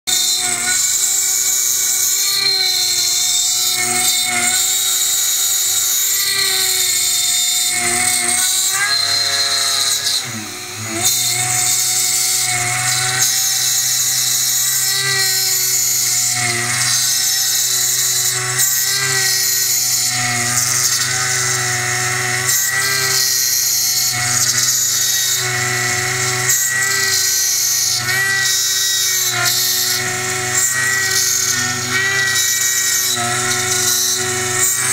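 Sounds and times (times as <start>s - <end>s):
milling machine cutting metal: 0.1s - 34.9s.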